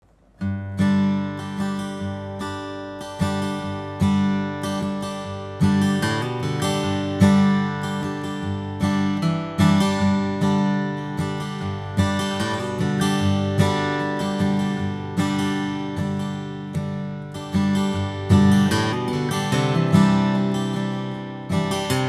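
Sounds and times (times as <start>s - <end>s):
acoustic guitar strummed chords: 0.2s - 22.0s.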